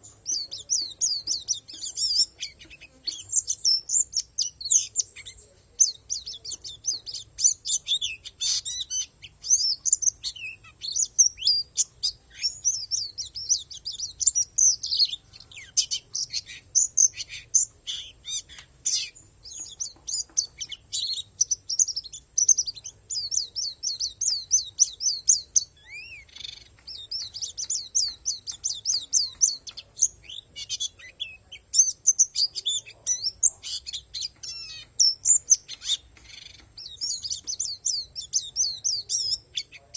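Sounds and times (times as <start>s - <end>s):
bird chirping and twittering: 0.0s - 39.9s.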